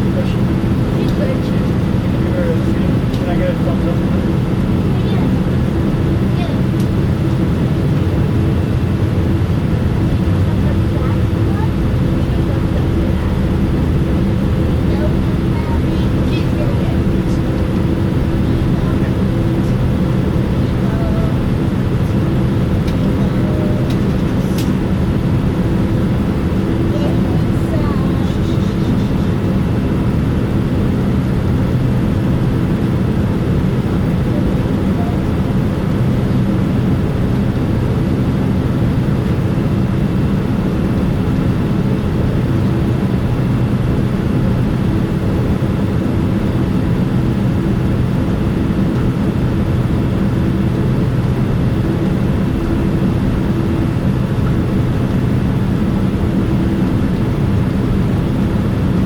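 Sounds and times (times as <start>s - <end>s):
airliner cabin engine hum: 0.0s - 59.0s.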